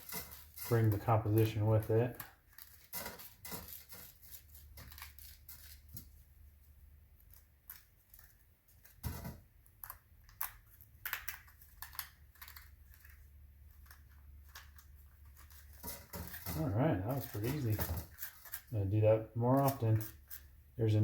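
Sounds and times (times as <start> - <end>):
clay clicks scrapes and rustles: 0.0 - 20.8.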